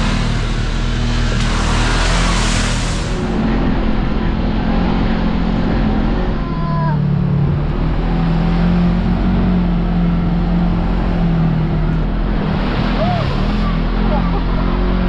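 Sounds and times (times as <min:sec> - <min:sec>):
road and chassis rumble: 0:00.0 - 0:15.0
vehicle engine running: 0:00.0 - 0:15.0.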